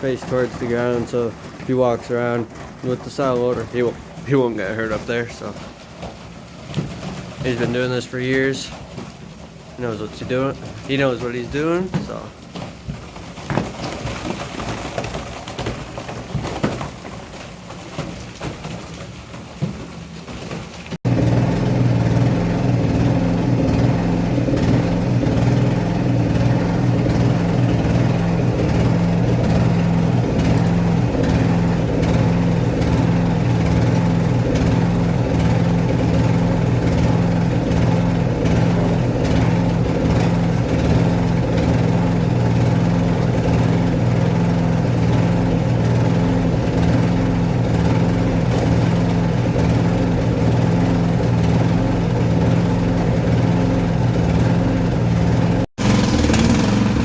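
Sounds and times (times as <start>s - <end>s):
silo unloader humming: 0.0s - 12.6s, 21.0s - 57.0s
knocking and clatter: 0.0s - 57.0s.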